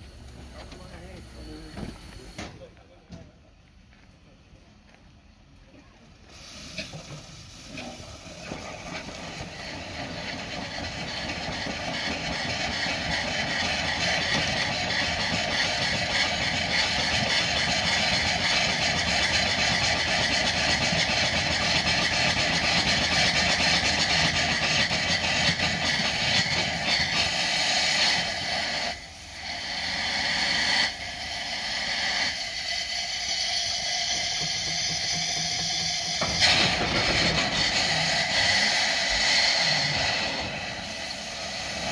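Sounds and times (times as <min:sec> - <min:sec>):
steam pump hissing exhaust: 0:00.0 - 0:03.4, 0:05.6 - 0:41.9.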